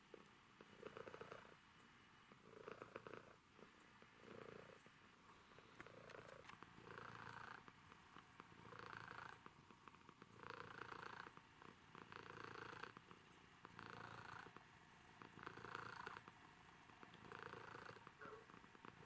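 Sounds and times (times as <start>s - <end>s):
cat purring: 0.0s - 1.7s, 2.3s - 19.0s.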